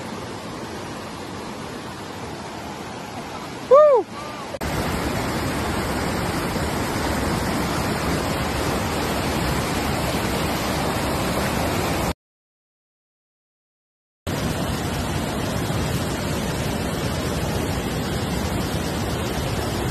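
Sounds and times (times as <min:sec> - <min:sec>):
river rapids rushing over rocks: 0:00.0 - 0:12.1, 0:14.3 - 0:19.9.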